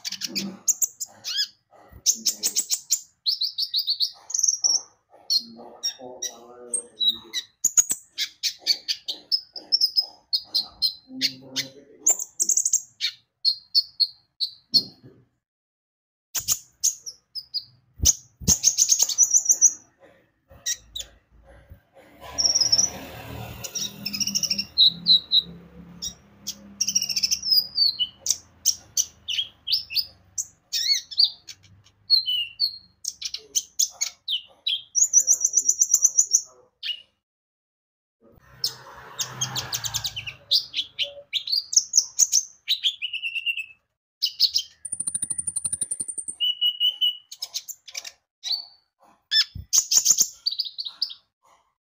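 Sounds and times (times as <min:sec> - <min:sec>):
bird singing chirps and trills: 0:00.0 - 0:15.0, 0:16.4 - 0:19.9, 0:23.7 - 0:37.2, 0:39.8 - 0:51.4.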